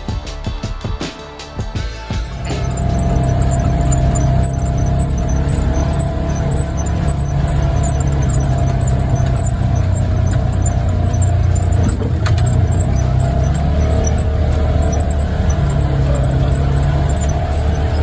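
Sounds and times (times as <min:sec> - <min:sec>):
steady whine: 0:02.2 - 0:18.0
vehicle engine running: 0:02.2 - 0:18.0.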